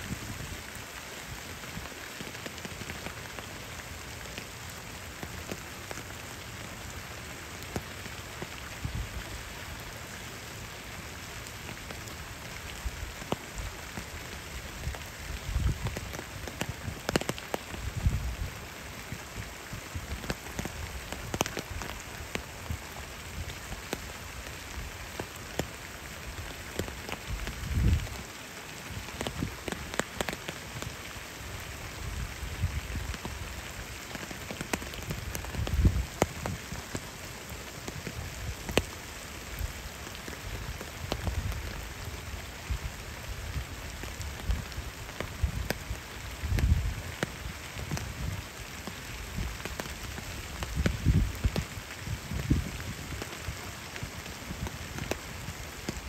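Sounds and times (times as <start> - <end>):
rain falling on a pond: 0.0 - 56.0.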